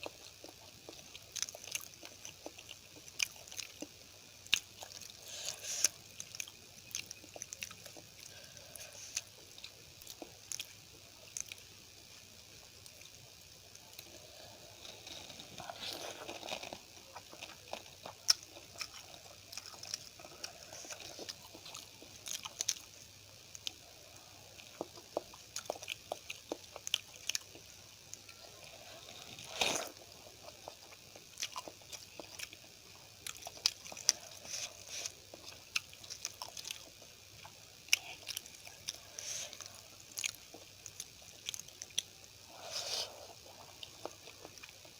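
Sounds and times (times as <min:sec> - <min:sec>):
chewing and biting food: 0:00.0 - 0:11.7, 0:12.8 - 0:22.9, 0:23.6 - 0:44.9.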